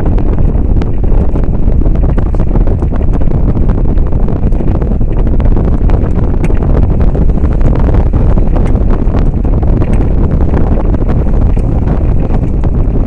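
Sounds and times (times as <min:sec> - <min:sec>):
boat engine: 0:00.0 - 0:13.0
water noise: 0:00.0 - 0:13.0
wind buffeting microphone: 0:00.0 - 0:13.0.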